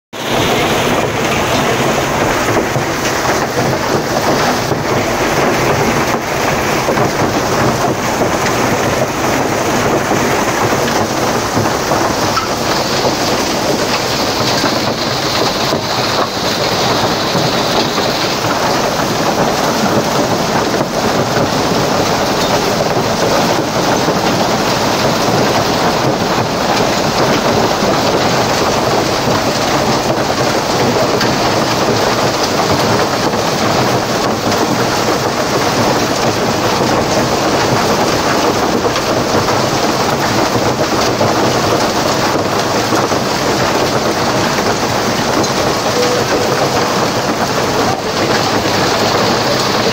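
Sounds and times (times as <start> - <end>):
heavy rain and hail on pavement and cars: 0.2 - 49.9.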